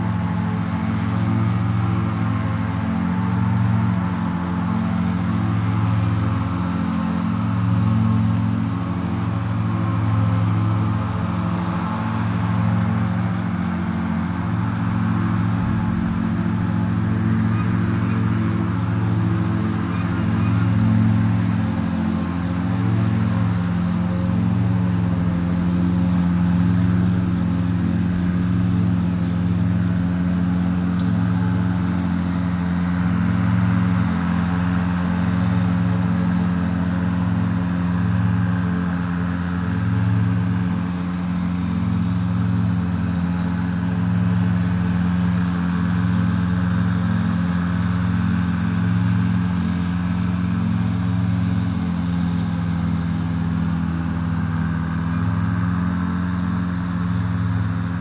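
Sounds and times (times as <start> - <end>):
low pulsing engine hum: 0.0 - 58.0
thin high whine: 0.0 - 58.0.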